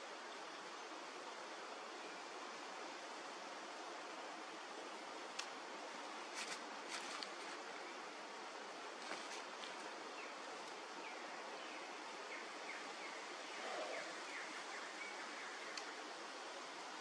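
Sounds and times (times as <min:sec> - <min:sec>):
constant rushing hiss: 0:00.0 - 0:17.0.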